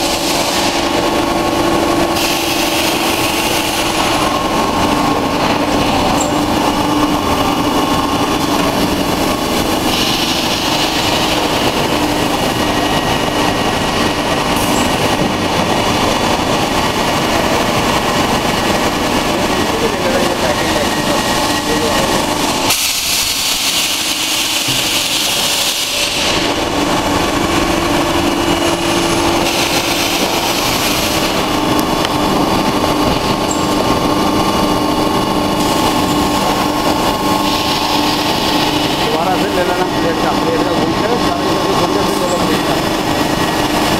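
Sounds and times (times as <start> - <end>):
factory machinery hum: 0.0 - 43.9.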